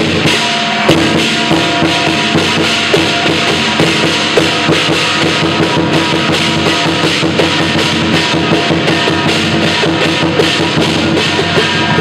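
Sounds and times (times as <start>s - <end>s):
clashing cymbals: 0.0s - 12.0s
fast drumbeat: 0.0s - 12.0s.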